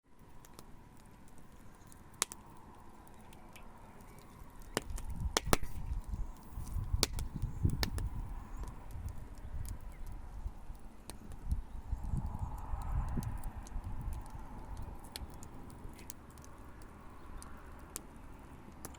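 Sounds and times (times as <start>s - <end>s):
wood fire crackling and popping: 0.2s - 18.9s.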